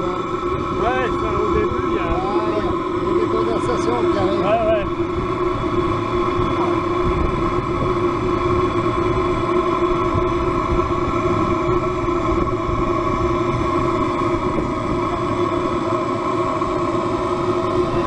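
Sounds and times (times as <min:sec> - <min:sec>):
model steam engine humming: 0:00.0 - 0:18.0.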